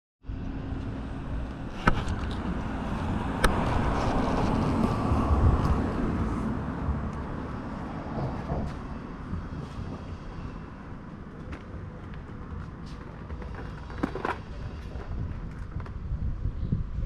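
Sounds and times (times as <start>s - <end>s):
wind noise: 0.3s - 17.0s.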